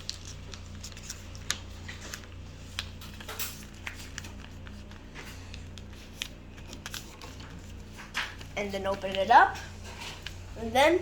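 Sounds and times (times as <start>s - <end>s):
paper rustling and creasing: 0.0s - 10.4s
steady low hum: 0.0s - 11.0s.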